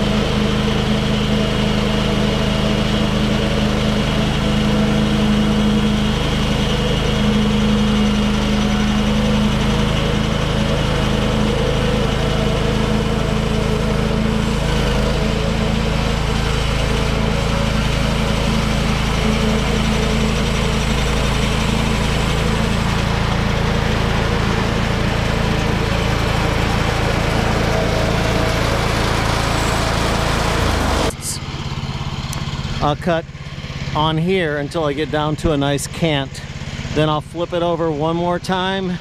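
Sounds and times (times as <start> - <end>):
band blade sawing log: 0.0 - 31.5
sawmill engine running: 0.0 - 39.0.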